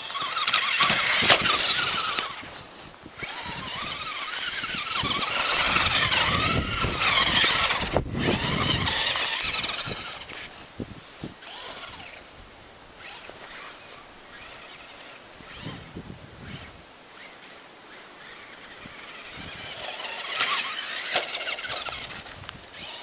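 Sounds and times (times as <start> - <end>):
toy truck motor whining: 0.0 - 12.4, 13.0 - 17.4, 18.0 - 23.0.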